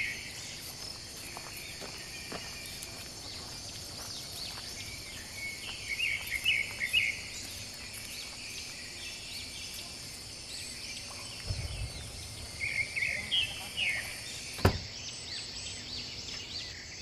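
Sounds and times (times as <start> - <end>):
birds chirping: 0.0 - 17.0
high insect drone: 0.0 - 17.0.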